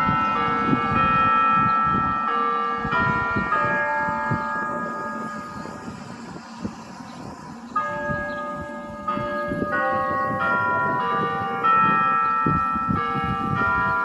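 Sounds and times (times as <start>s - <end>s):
electronic church bells ringing: 0.0s - 14.0s.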